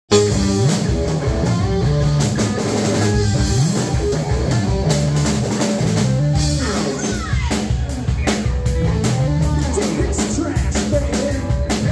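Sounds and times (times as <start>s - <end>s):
drum kit hits: 0.1s - 11.9s
electric guitar sliding notes: 0.1s - 11.9s.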